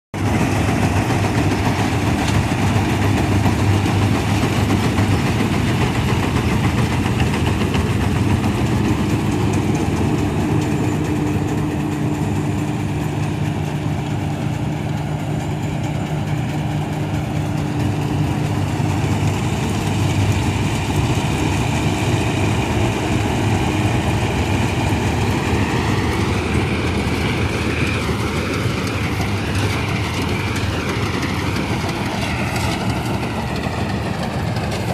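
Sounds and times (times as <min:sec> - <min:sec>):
combine harvester running: 0:00.2 - 0:34.9.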